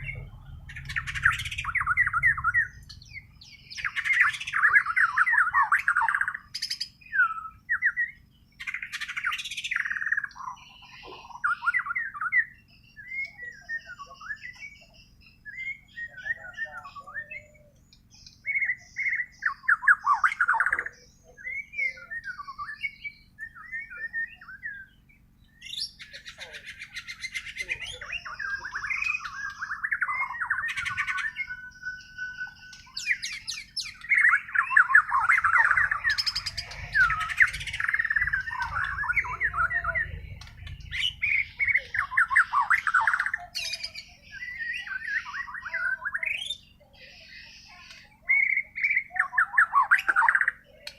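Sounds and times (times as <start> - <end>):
songbird whistling and chattering: 0.0 - 50.9.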